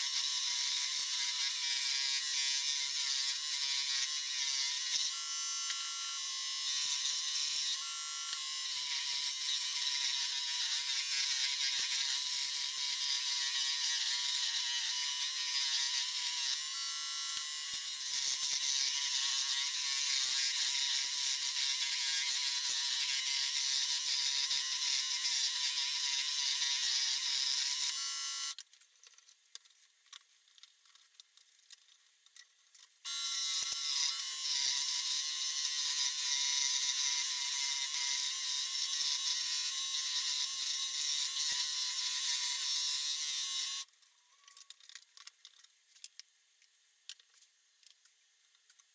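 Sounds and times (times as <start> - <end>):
scroll saw cutting wood: 0.0 - 28.6, 33.0 - 44.8.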